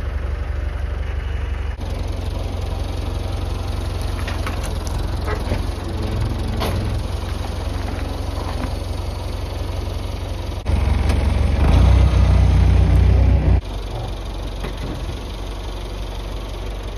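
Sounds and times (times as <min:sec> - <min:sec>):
tractor engine revving: 0:01.7 - 0:15.3.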